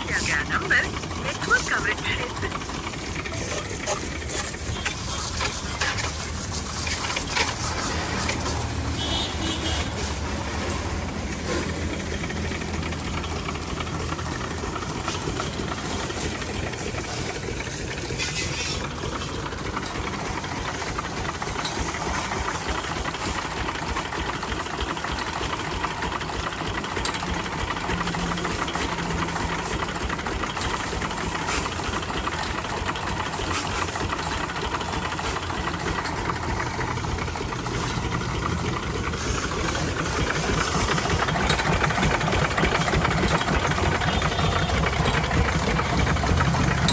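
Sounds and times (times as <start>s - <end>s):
diesel engine knocking: 0.0s - 46.9s.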